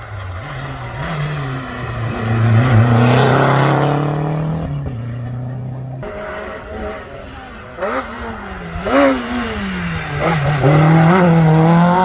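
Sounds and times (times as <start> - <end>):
rally car engine passing by: 0.0 - 12.0.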